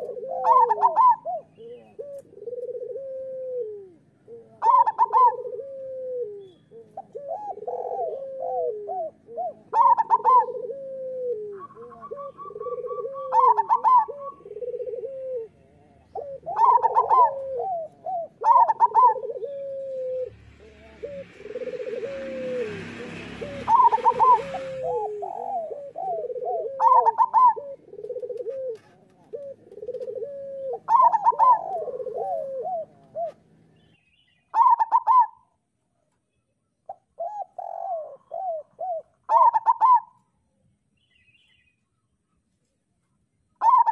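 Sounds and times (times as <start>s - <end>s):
doves cooing: 0.0s - 33.6s, 34.5s - 35.6s, 36.8s - 40.3s, 43.6s - 43.9s.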